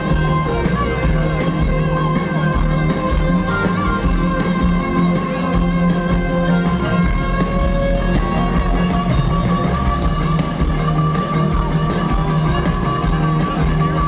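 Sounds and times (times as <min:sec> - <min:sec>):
electric guitar lead: 0:00.0 - 0:14.0
live rock band: 0:00.0 - 0:14.0.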